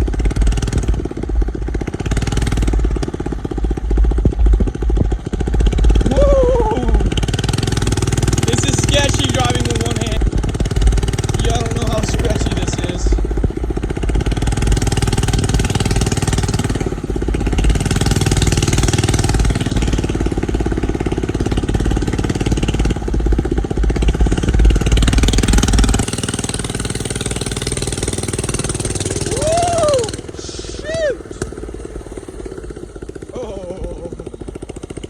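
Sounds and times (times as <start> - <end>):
mini bike engine puttering: 0.0 - 35.0.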